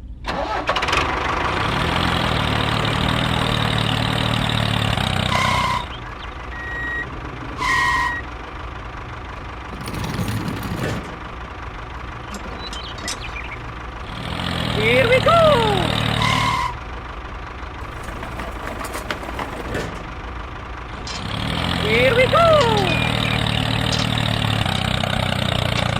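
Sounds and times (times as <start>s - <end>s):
small tractor engine running: 0.0s - 25.9s.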